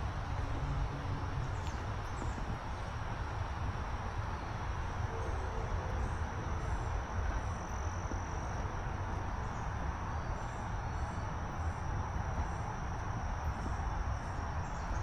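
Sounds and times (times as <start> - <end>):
insects droning: 0.6 - 15.0.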